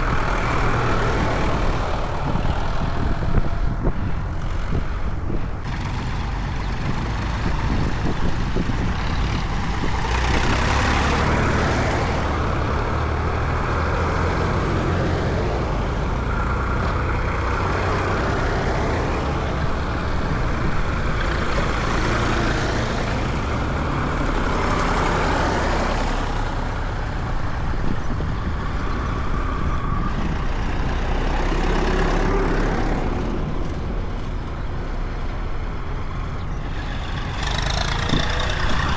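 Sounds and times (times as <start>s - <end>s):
road noise: 0.0s - 38.9s
tractor engines running: 0.0s - 38.9s.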